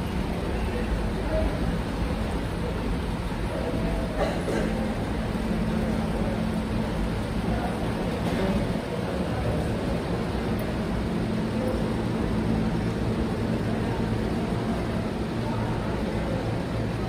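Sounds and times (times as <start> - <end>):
subway station rumble and hum: 0.0 - 17.0.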